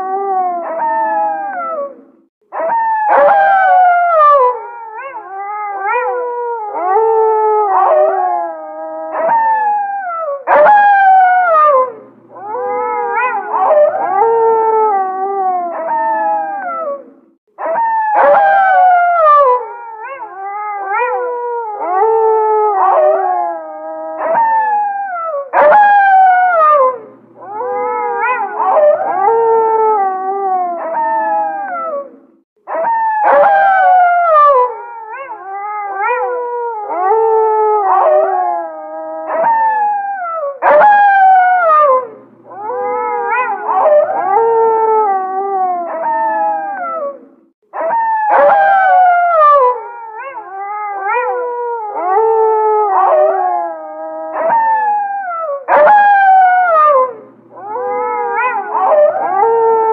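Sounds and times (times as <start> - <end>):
wolves howling in chorus: 0.0 - 59.9.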